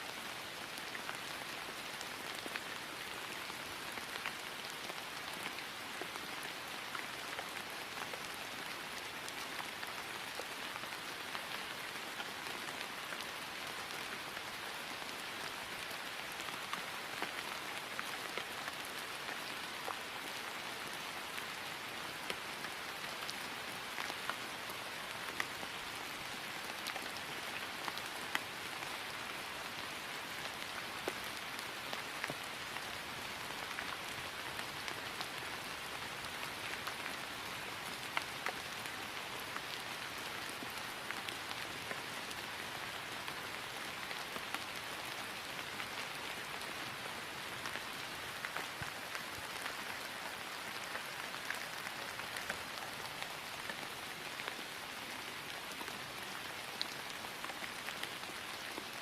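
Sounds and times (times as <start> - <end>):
rain falling on grass: 0.0 - 59.0.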